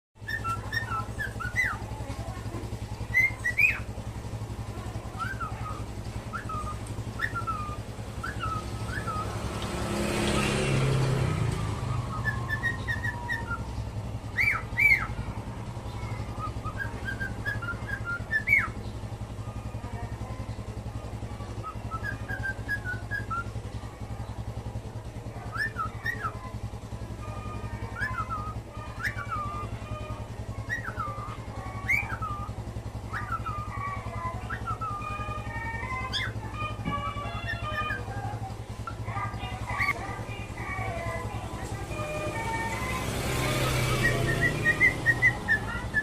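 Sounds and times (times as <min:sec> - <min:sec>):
songbird chirping and whistling: 0:00.2 - 0:46.0
steady low hum: 0:00.2 - 0:46.0.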